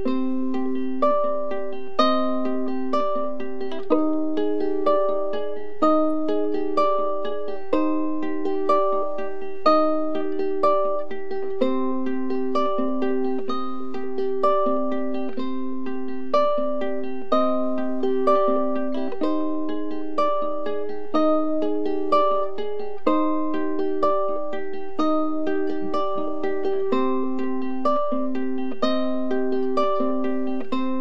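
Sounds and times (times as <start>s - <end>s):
ukulele plucked notes: 0.0s - 31.0s.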